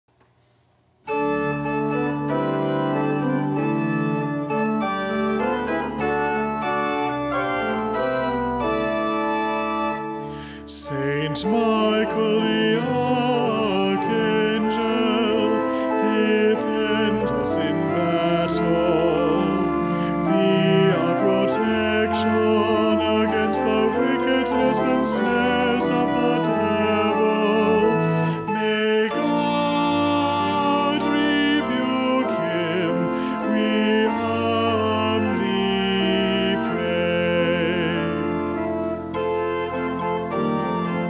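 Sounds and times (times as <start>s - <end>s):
organ playing chords: 0.4s - 41.0s
person singing a hymn: 1.1s - 41.0s.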